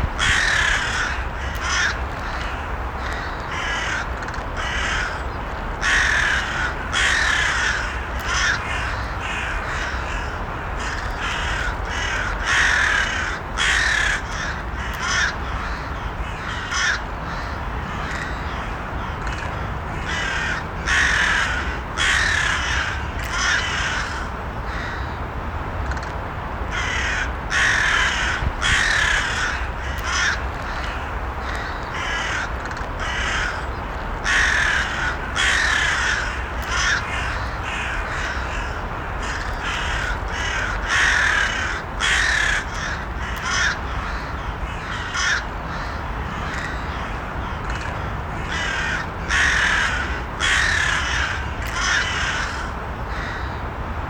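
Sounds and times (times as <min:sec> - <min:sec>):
crows cawing: 0:00.2 - 0:25.2, 0:26.7 - 0:53.6.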